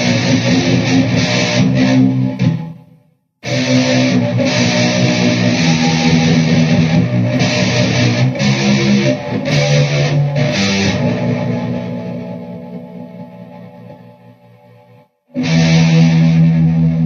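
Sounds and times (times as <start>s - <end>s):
electric guitar strummed chords: 0.0s - 14.8s, 15.4s - 17.0s.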